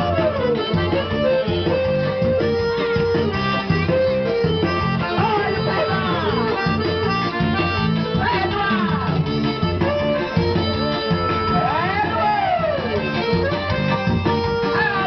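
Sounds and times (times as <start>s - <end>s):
accordion music over bass beat: 0.0s - 15.0s.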